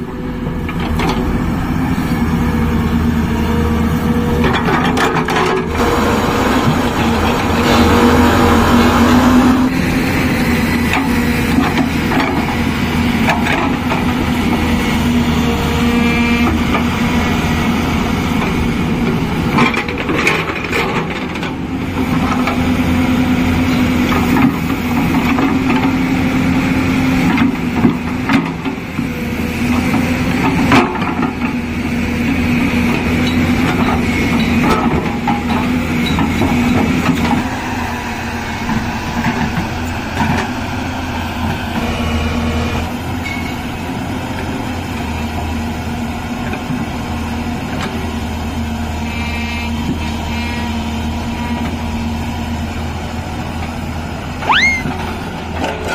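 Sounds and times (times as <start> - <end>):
excavator diesel engine humming: 0.0 - 55.9.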